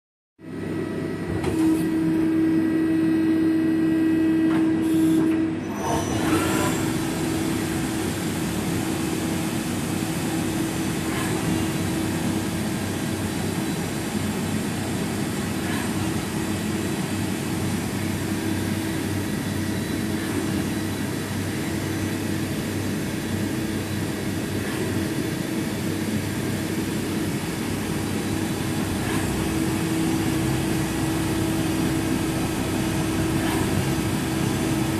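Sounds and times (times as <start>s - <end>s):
lathe running with whine: 5.7s - 34.9s.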